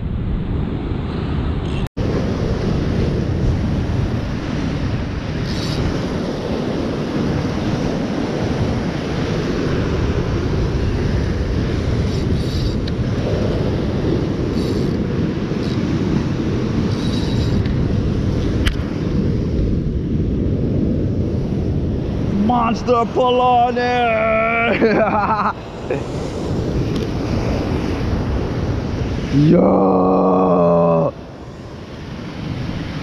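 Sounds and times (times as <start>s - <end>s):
ocean surf breaking on rock: 0.0s - 33.0s
wind buffeting microphone: 0.0s - 33.0s.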